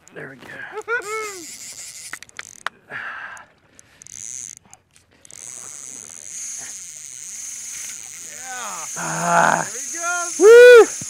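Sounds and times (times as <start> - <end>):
fishing reel drag whining: 0.6 - 11.0.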